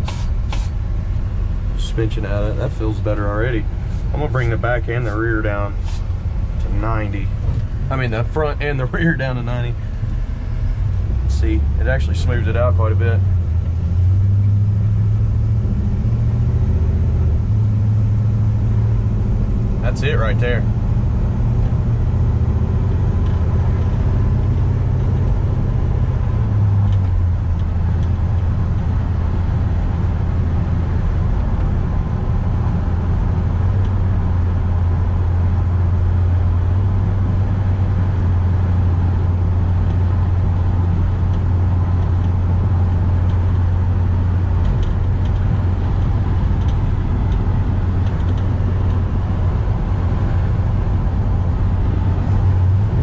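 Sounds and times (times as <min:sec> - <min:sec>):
engine humming: 0:00.0 - 0:53.0
road noise: 0:00.0 - 0:53.0.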